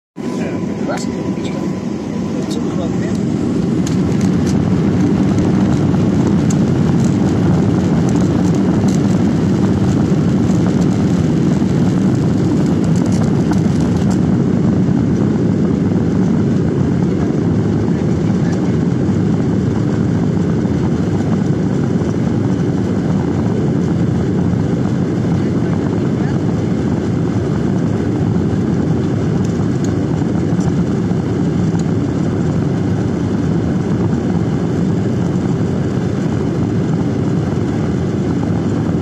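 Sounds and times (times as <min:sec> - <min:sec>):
jet engines rumbling in cabin: 0:00.2 - 0:39.0.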